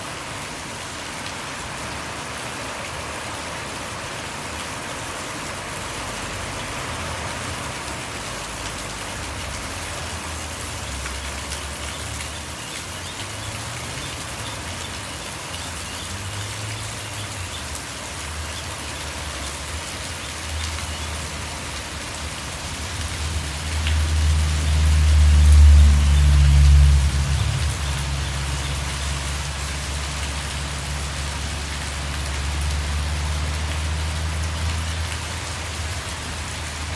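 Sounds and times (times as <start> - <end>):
steady rain hiss: 0.0 - 36.9
traffic rumble: 0.0 - 36.9.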